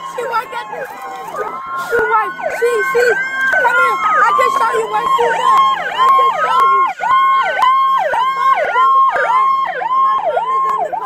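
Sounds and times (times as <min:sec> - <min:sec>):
police siren yelping: 0:00.0 - 0:11.0
siren wailing: 0:00.0 - 0:11.0.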